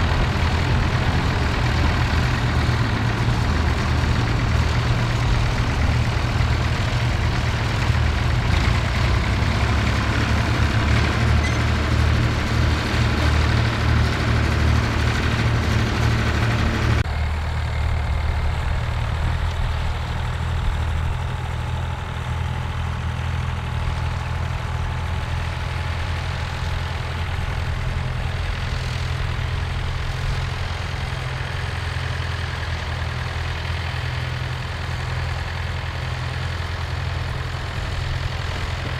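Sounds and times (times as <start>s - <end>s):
tractor engines running: 0.0s - 38.9s
tractor running with plough: 0.0s - 38.9s.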